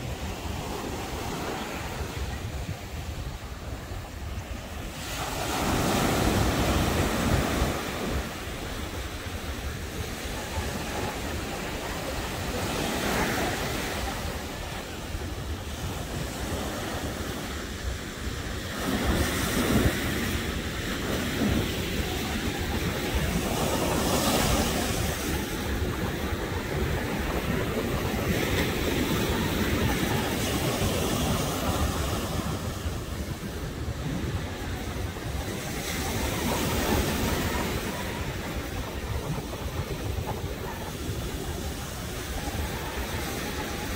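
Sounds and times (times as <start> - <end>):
ocean surf breaking: 0.0 - 43.9
wind rumbling on microphone: 0.0 - 43.9.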